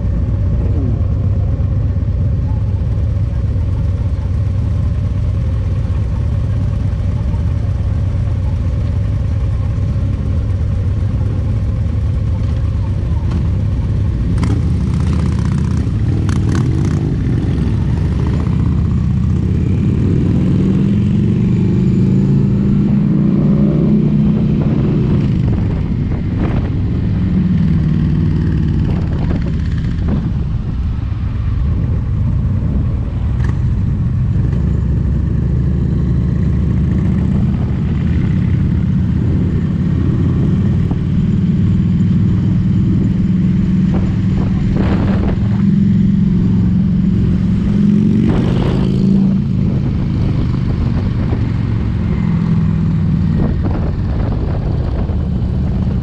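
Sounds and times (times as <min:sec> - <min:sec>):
motorcycle engine accelerating: 0:00.0 - 0:56.0
other motorcycles riding: 0:00.0 - 0:56.0.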